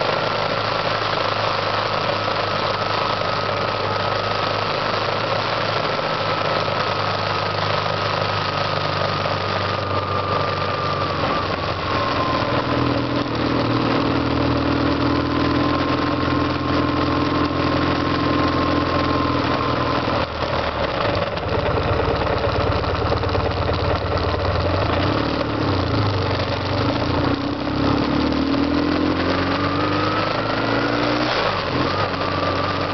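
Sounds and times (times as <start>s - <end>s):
motorcycle engine running: 0.0s - 32.9s
tyres on wet road: 0.0s - 32.9s.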